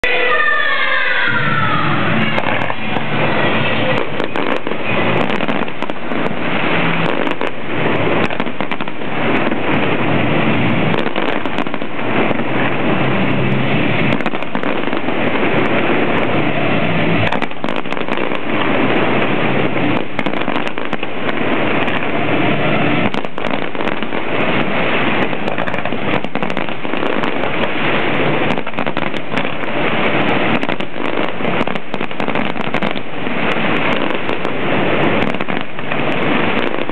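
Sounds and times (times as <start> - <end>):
fireworks crackling and banging: 0.0 - 36.9.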